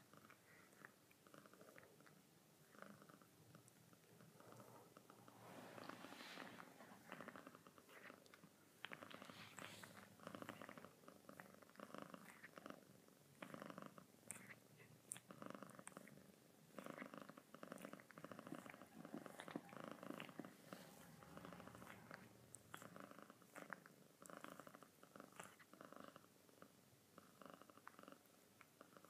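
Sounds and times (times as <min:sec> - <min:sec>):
cat purring softly: 0:00.0 - 0:29.0.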